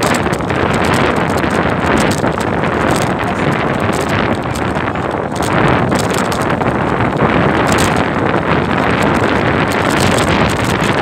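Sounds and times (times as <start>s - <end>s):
road noise: 0.0s - 11.0s
wind rushing on microphone: 0.0s - 11.0s.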